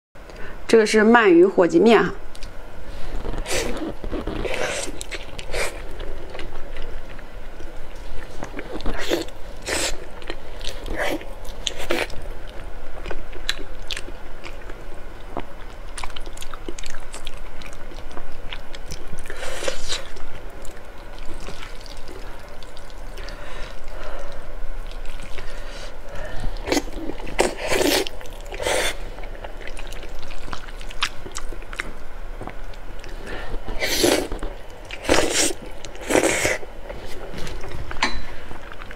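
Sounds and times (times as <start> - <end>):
person chewing food: 2.3 - 38.9.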